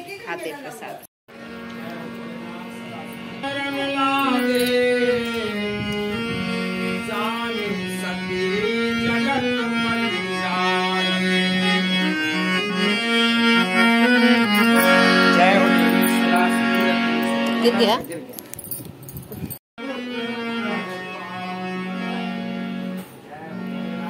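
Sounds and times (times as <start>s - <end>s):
harmonium playing melody: 1.3s - 18.4s, 19.8s - 24.0s.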